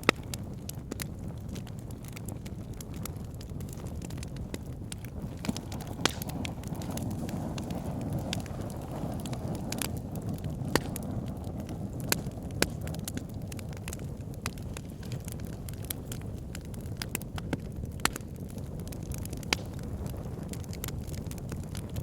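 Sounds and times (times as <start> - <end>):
logs crackling and popping: 0.0 - 22.0
low rush of flame: 0.0 - 22.0.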